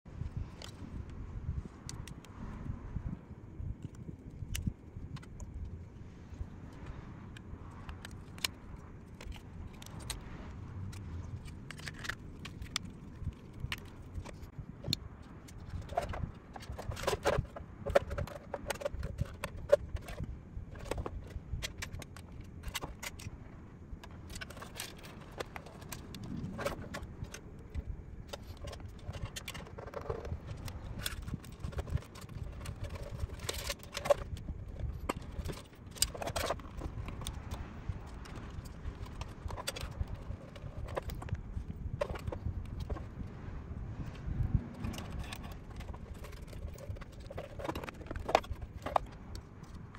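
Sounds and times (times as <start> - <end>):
low background rumble: 0.1 - 49.9
plastic parts clicking and rattling: 0.3 - 1.2, 3.6 - 5.9, 6.7 - 23.3, 24.0 - 43.3, 44.1 - 49.9.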